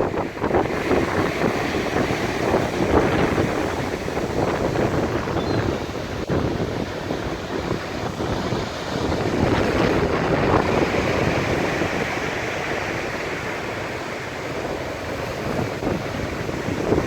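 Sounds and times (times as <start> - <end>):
storm wind buffeting microphone: 0.0 - 17.0
waves surging and breaking: 0.0 - 17.0.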